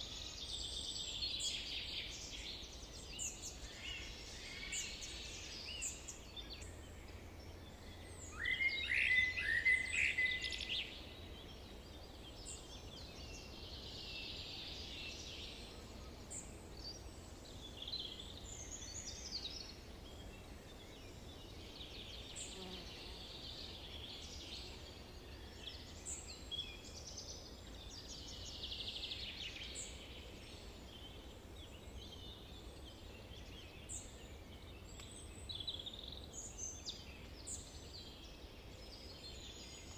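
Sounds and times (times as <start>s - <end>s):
birds singing and chirping: 0.0s - 39.9s
faint background noise: 0.0s - 39.9s.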